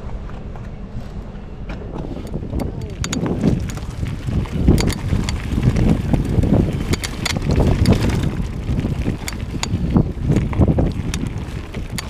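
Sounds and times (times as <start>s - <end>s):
wind rushing over microphone: 0.0s - 12.0s
bike tyres knocking on stones: 2.3s - 12.0s.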